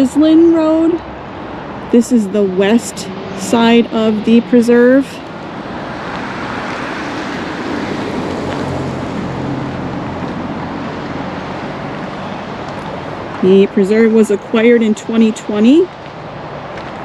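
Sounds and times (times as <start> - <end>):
road traffic rushing: 0.0 - 17.0
vehicle engine hum passing: 0.0 - 17.0.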